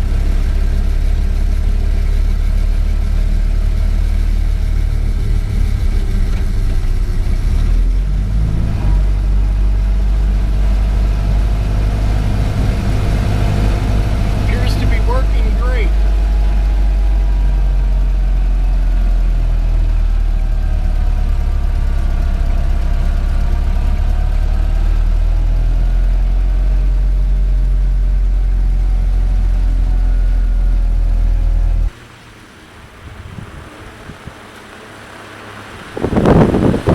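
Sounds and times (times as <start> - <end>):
car engine droning: 0.0 - 36.9.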